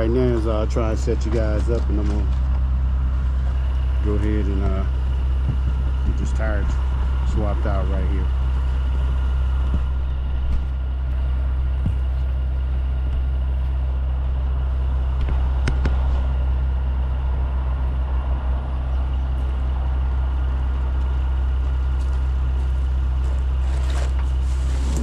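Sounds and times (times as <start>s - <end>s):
heavy truck engine idling: 0.0s - 25.0s.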